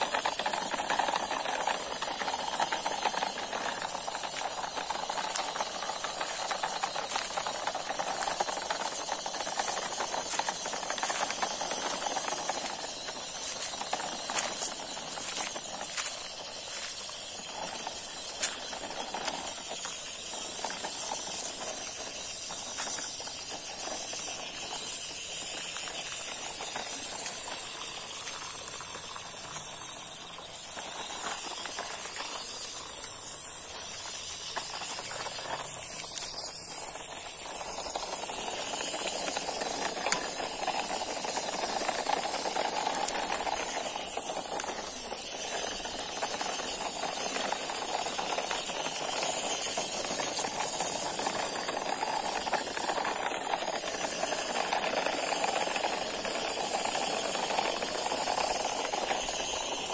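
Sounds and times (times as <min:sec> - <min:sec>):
tyres crunching on dirt: 0:00.0 - 0:55.7
steady high hiss: 0:00.0 - 0:59.9
toy truck electric motor and gears: 0:00.0 - 0:59.9.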